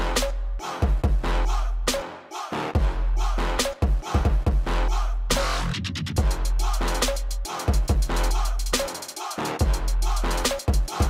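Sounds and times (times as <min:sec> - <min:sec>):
music with heavy bass and drums: 0:00.0 - 0:02.1, 0:02.7 - 0:11.0.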